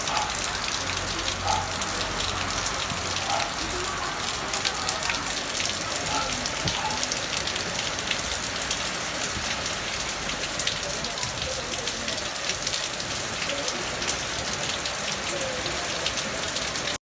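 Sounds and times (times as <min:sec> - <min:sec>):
heavy rain on wet street: 0:00.0 - 0:17.0.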